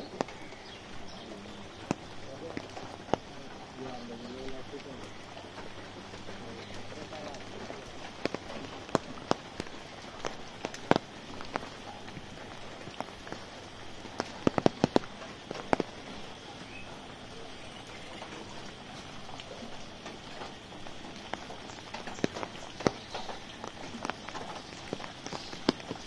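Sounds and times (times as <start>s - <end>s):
rain hissing on an umbrella: 0.0s - 26.0s.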